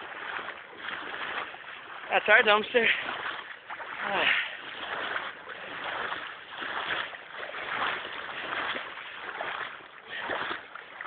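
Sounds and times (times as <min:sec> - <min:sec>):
floodwater splashing and sloshing: 0:00.0 - 0:11.0.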